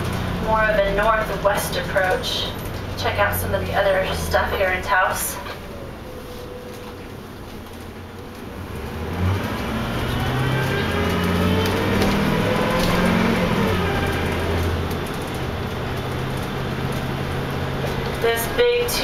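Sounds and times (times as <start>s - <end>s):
vehicle engine accelerating: 0.0s - 18.9s.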